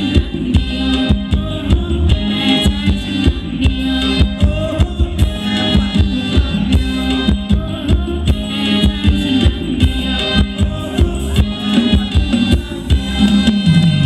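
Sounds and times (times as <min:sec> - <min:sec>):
live band playing dance music: 0:00.0 - 0:14.0
steady drum beat: 0:00.0 - 0:14.0.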